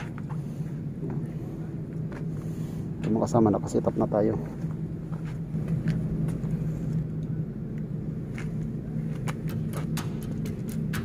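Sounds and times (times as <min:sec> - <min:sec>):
low engine-like hum: 0:00.0 - 0:11.0.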